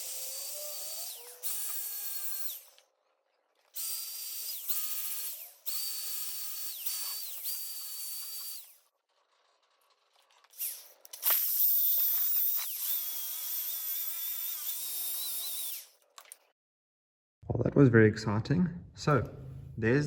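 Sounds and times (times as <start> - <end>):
power drill whining: 0.0 - 16.3.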